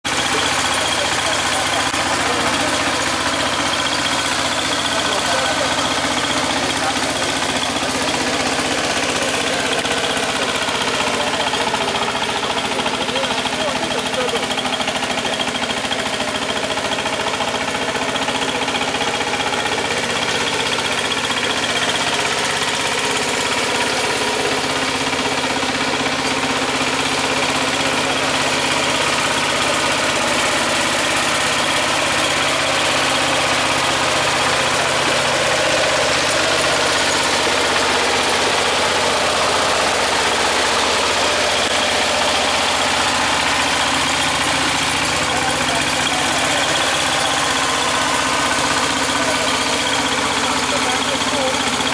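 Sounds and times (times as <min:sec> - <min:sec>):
diesel tiller engine running: 0:00.0 - 0:51.9.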